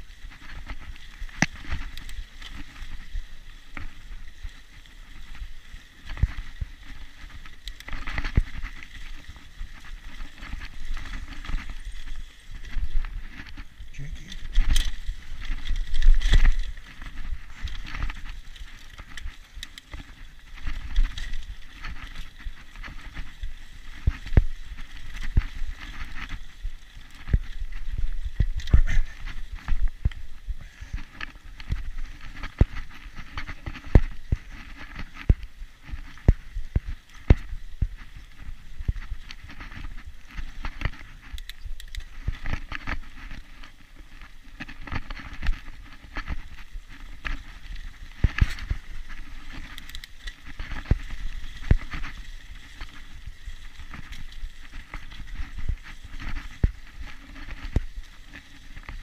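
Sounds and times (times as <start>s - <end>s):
bike chain and frame rattling: 0.0s - 59.0s
wind rumbling on microphone: 0.0s - 59.0s.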